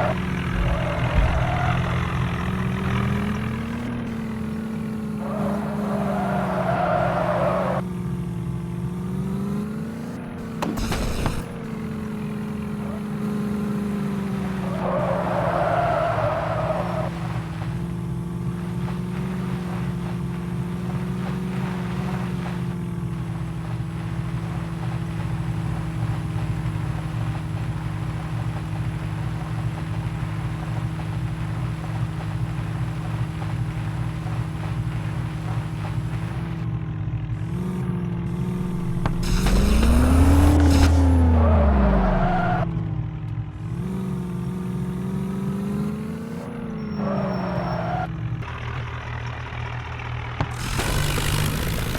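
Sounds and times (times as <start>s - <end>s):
tractor diesel engine running hard: 0.0s - 7.6s, 8.3s - 42.6s, 48.1s - 51.9s.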